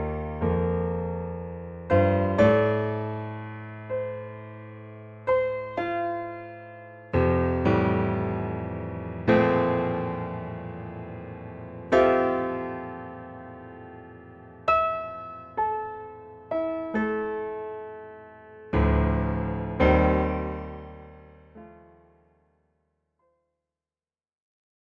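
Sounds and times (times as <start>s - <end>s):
slow solo piano: 0.0s - 22.6s.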